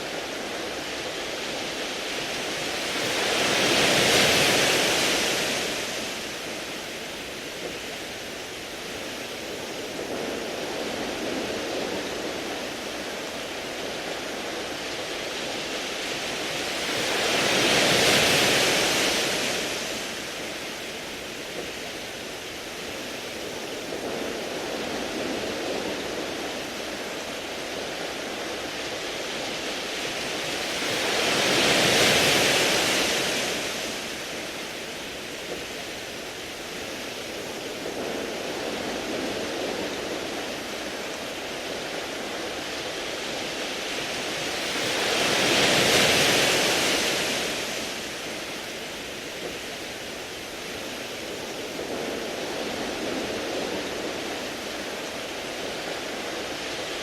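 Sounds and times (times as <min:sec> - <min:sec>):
waves washing over pebbles: 0:00.0 - 0:57.0.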